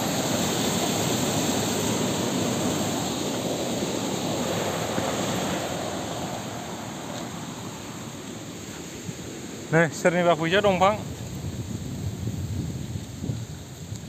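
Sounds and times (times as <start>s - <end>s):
water rushing through sluice gate: 0.0s - 11.4s.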